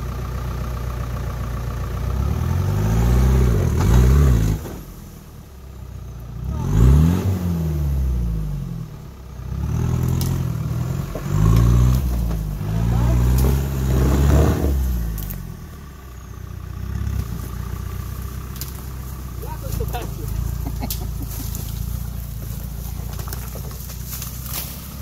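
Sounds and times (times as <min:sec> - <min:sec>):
buggy engine revving: 0:00.0 - 0:25.0.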